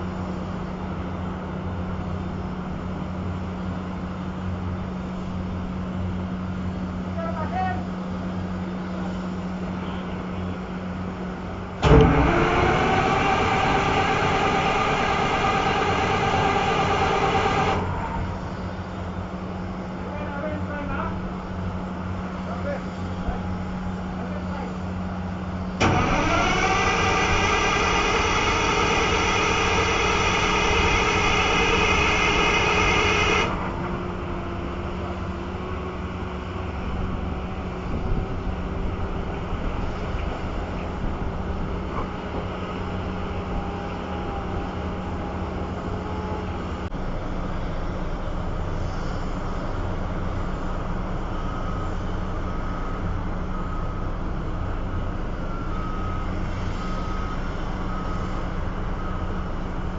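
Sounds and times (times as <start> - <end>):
heavy machinery humming: 0.0 - 59.9.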